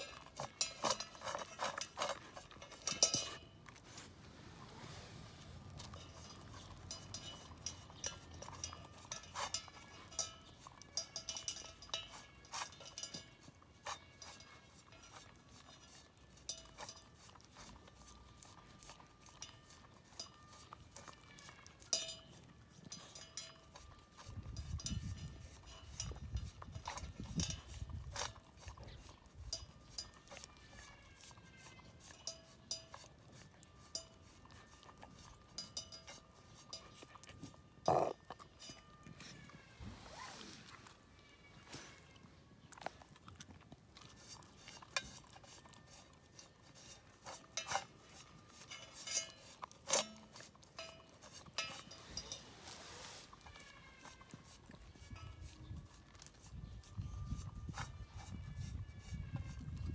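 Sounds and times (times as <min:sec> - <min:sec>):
dog eating from metal pot: 0:00.0 - 0:59.9.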